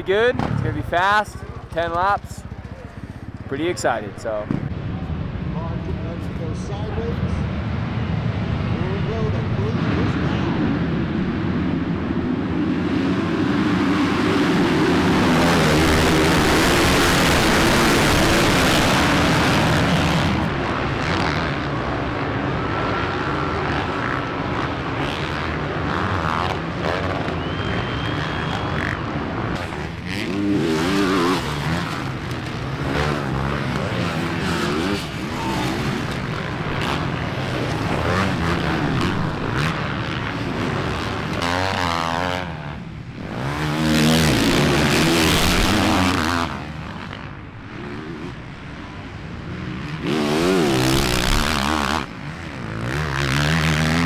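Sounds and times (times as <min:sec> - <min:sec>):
motocross engines at full throttle: 0:00.0 - 0:54.0
motorbike revving: 0:06.0 - 0:54.0.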